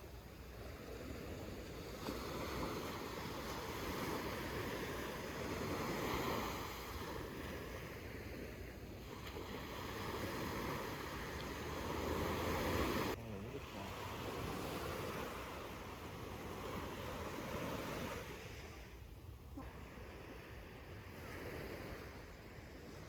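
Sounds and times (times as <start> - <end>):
surf breaking on beach: 1.5 - 23.0.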